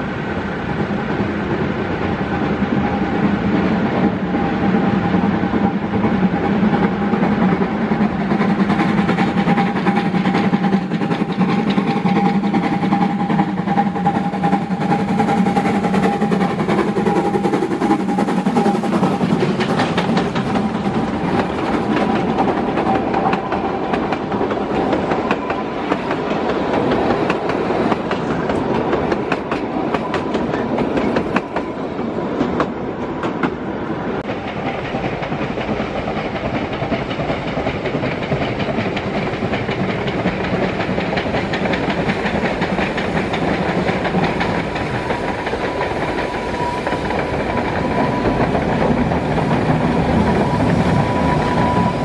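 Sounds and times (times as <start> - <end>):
steam train passing: 0.0 - 52.0
wheels clicking over rail joints: 5.1 - 31.7, 34.2 - 52.0.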